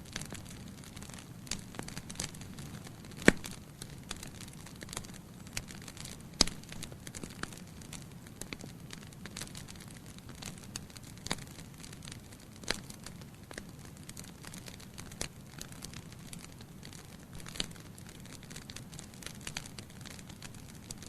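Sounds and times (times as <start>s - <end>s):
logs crackling and popping: 0.0s - 21.0s
steady low hiss: 0.0s - 21.0s.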